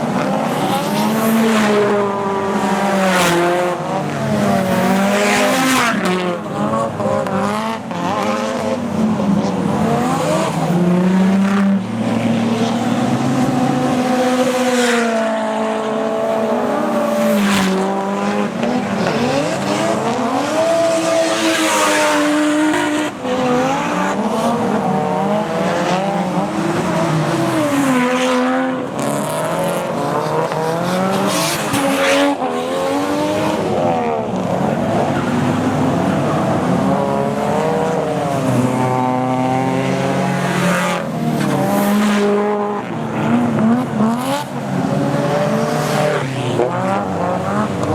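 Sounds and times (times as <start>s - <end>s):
car engines revving hard: 0.0s - 47.9s.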